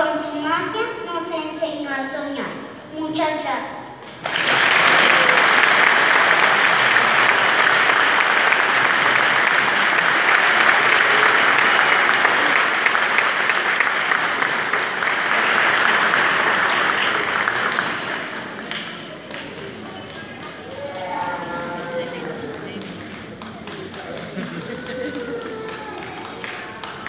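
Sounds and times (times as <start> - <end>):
audience applauding: 4.0 - 27.0.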